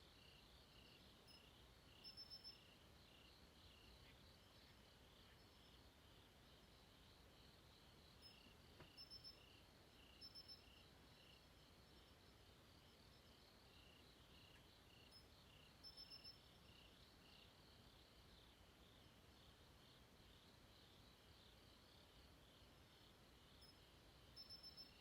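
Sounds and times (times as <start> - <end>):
higher cricket chirps: 0.0 - 25.0
crickets pulsing call: 0.1 - 6.8, 7.4 - 19.5, 23.5 - 25.0.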